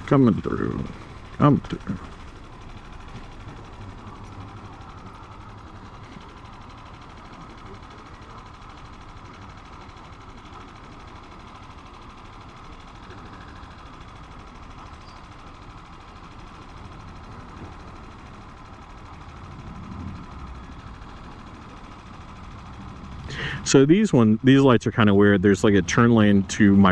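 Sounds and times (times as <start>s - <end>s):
motorcycle engine running: 0.0s - 26.9s
road and wind noise: 0.0s - 26.9s.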